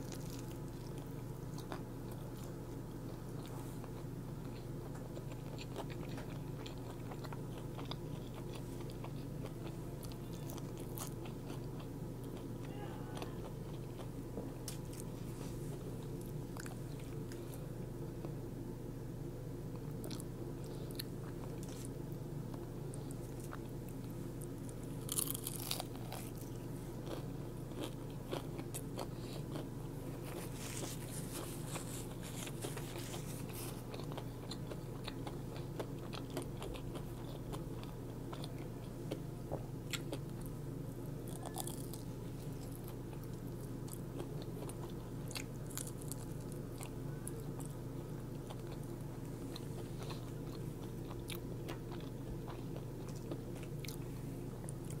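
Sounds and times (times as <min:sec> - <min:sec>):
crunchy chewing: 0:00.0 - 0:17.6, 0:19.7 - 0:55.0
steady low hum: 0:00.0 - 0:55.0.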